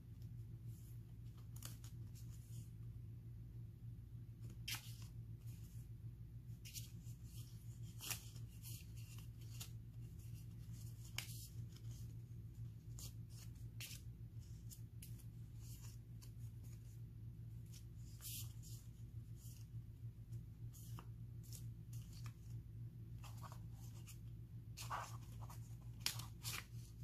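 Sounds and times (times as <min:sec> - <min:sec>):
steady low hum: 0:00.0 - 0:27.0
paper cards flicking and rustling: 0:01.2 - 0:02.6, 0:04.4 - 0:05.8, 0:06.6 - 0:27.0.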